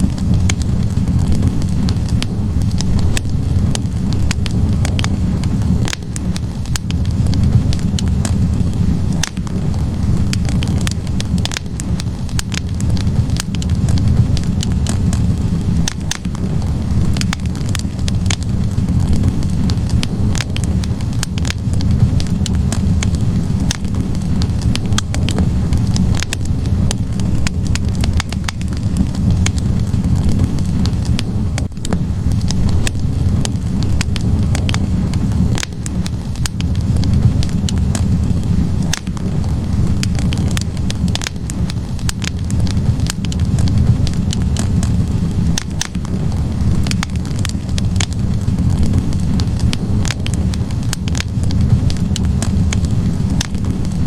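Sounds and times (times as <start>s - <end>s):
logs popping and snapping: 0.0s - 54.0s
low rumble of flame: 0.0s - 54.0s.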